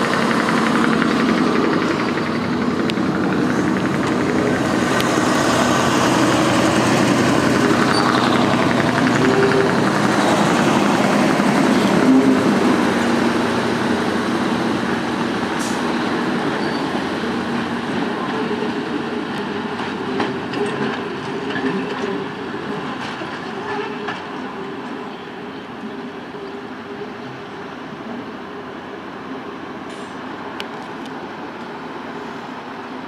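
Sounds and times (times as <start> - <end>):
diesel train engines: 0.0 - 33.0
train wheels on rails: 0.0 - 33.0.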